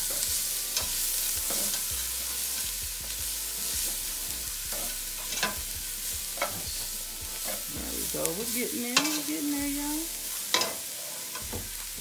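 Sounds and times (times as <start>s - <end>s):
utensil scraping a pan: 0.0s - 9.5s, 10.1s - 12.0s
food sizzling in oil: 0.0s - 12.0s.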